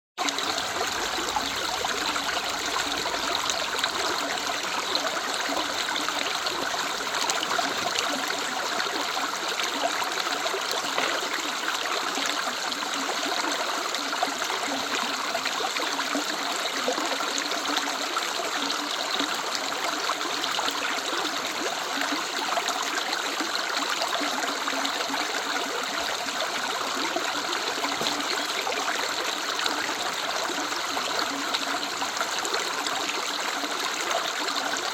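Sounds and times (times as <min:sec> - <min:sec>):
river flowing over stones: 0:00.2 - 0:34.9.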